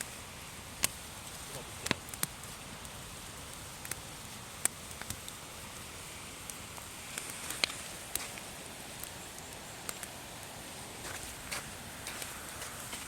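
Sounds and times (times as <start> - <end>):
campfire hissing: 0.0 - 13.0
fire crackling and popping: 0.0 - 13.0.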